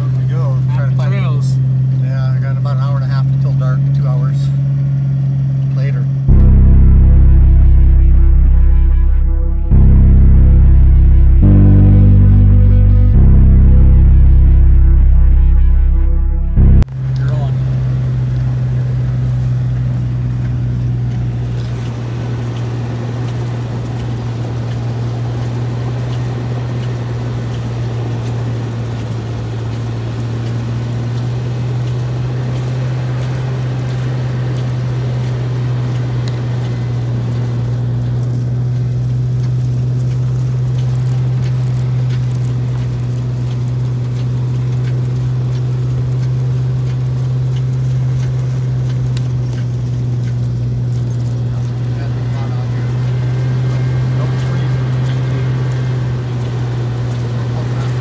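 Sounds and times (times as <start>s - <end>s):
car engine running: 0.0s - 58.0s
road and tyre noise: 0.0s - 58.0s.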